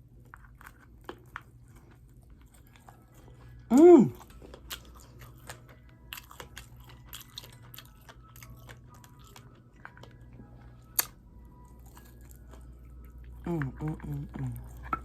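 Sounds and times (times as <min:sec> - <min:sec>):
person chewing and mouth smacking: 0:00.0 - 0:15.0.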